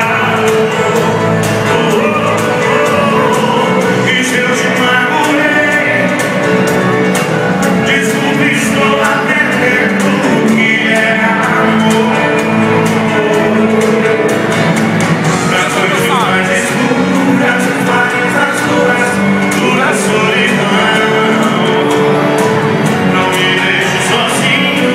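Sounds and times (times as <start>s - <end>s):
live band with singing: 0.0s - 24.9s
steady drum beat: 0.0s - 24.9s.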